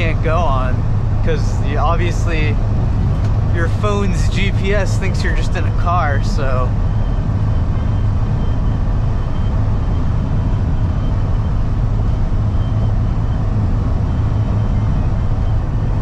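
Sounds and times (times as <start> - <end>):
truck engine and road noise: 0.0 - 16.0.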